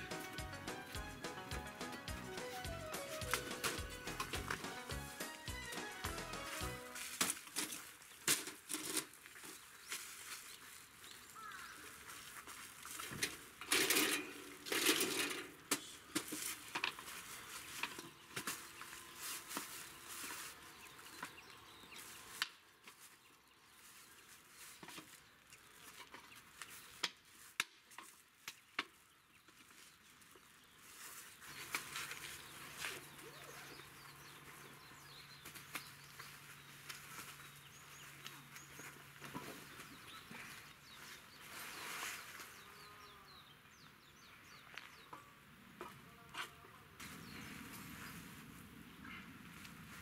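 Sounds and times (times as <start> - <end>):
birdsong chirps: 0.0 - 14.6, 15.2 - 50.0.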